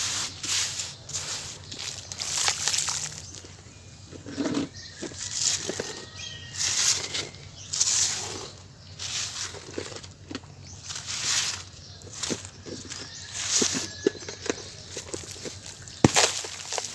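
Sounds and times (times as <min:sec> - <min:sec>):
gritty wet crunching of cement: 0:00.0 - 0:16.9.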